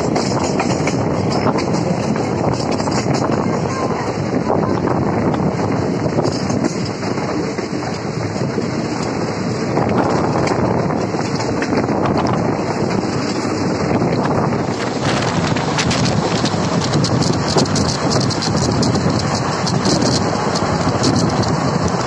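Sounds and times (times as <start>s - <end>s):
train wheels on track: 0.0s - 22.0s
wind on microphone: 0.0s - 22.0s.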